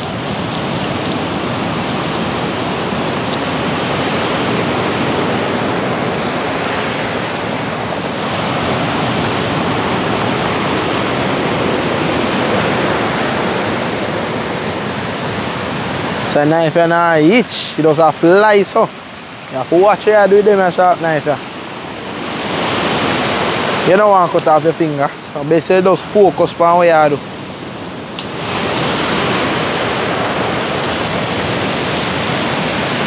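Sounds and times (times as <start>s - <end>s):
sea surf on pebble beach: 0.0s - 33.0s.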